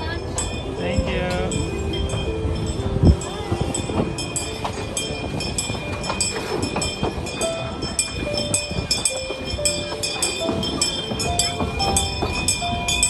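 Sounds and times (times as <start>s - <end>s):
steam train running: 0.0s - 13.0s.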